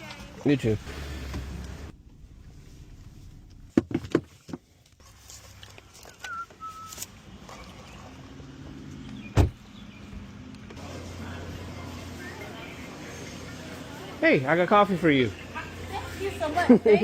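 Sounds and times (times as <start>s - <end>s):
vehicle running hum: 0.4s - 4.1s, 5.0s - 16.8s.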